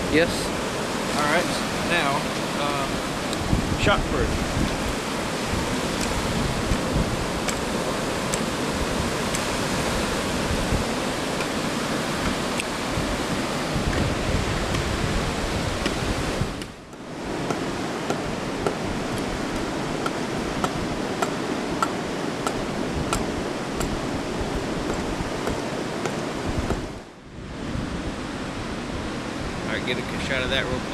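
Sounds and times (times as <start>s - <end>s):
surf washing in: 0.0s - 30.9s.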